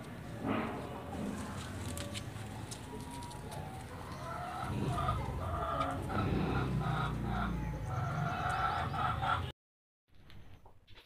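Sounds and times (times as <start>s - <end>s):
peafowl clucking calls: 0.4s - 9.5s.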